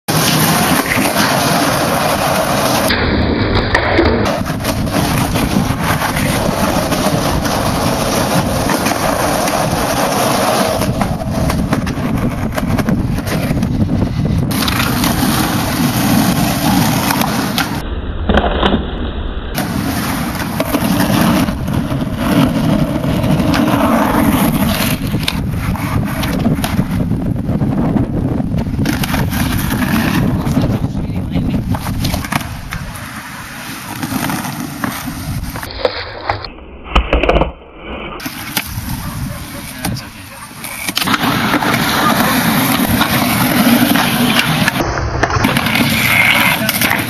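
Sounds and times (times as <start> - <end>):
skateboard wheels rolling on concrete: 0.1 - 47.0.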